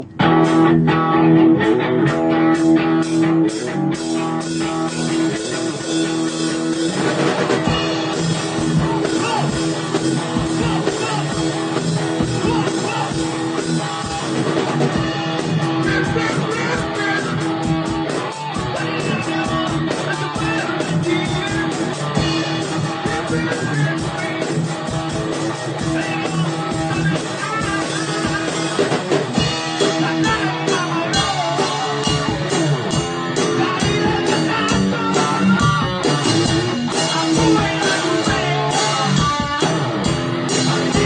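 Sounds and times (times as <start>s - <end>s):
drums: 0.0s - 41.0s
rock guitar playing: 0.0s - 41.0s.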